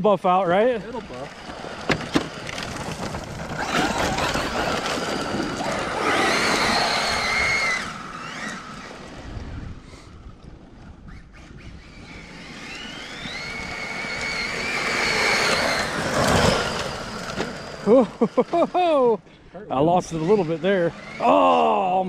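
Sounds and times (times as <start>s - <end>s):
electric motor whining: 0.6s - 19.2s, 19.8s - 22.0s.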